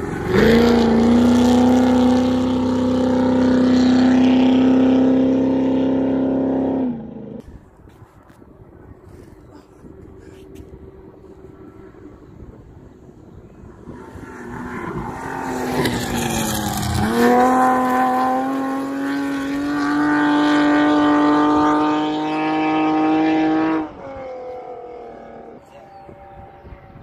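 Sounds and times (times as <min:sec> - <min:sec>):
race car engine revving: 0:00.0 - 0:07.4, 0:11.4 - 0:27.0.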